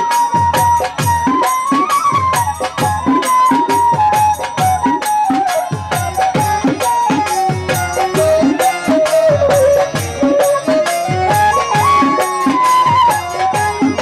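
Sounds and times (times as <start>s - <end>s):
folk melody line: 0.0s - 14.0s.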